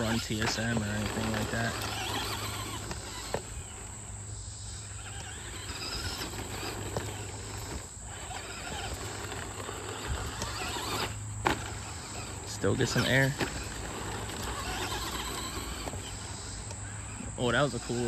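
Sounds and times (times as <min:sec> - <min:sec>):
electric motor of toy truck: 0:00.0 - 0:18.0
tyres on dirt: 0:00.0 - 0:18.0.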